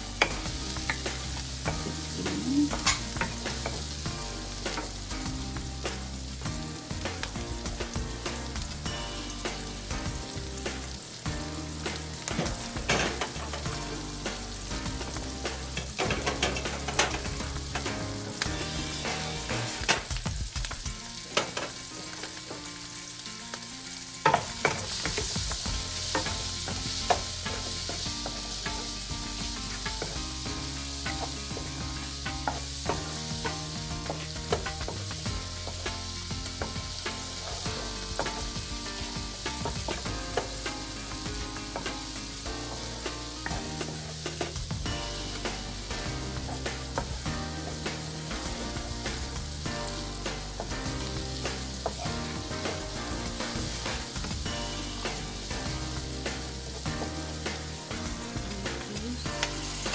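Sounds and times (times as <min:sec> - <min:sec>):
onion sizzling in hot oil: 0:00.0 - 0:59.9.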